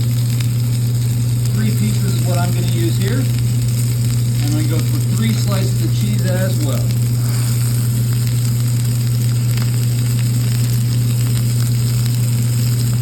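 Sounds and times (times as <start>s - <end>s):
meat sizzling on a griddle: 0.0s - 13.0s
low hum: 0.1s - 13.0s.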